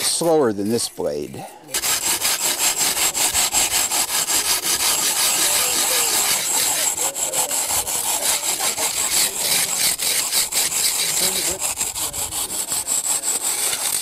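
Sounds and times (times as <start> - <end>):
hand saw rasping through brick: 1.7 - 14.0.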